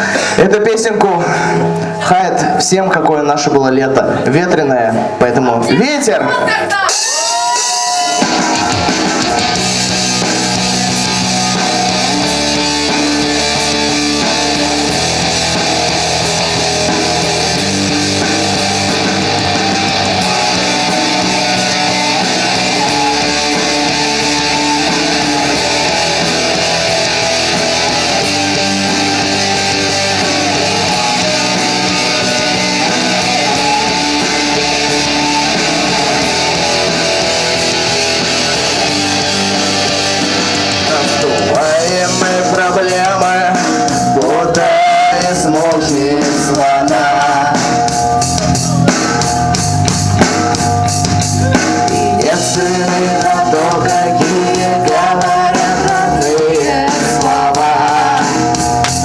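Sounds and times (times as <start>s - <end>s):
live rock band: 6.5s - 59.0s
strummed electric guitar chords: 8.1s - 59.0s.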